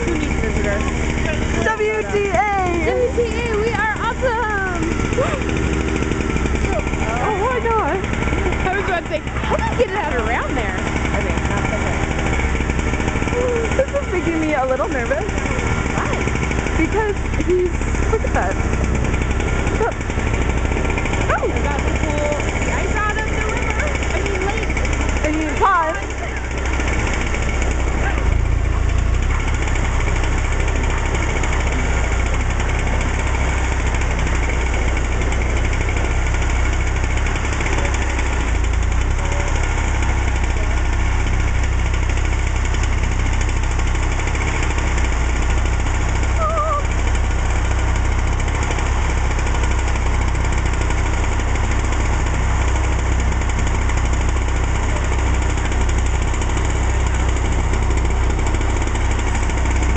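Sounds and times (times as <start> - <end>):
machine engine running: 0.0 - 59.9.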